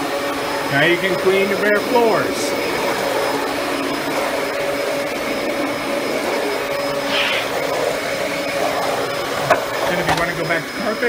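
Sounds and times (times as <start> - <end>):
vacuum cleaner motor whining: 0.0 - 11.0.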